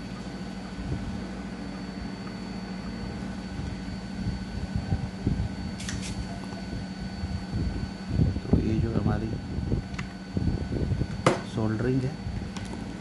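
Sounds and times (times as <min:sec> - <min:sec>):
low mechanical hum: 0:00.0 - 0:13.0
thin high whine: 0:00.0 - 0:13.0.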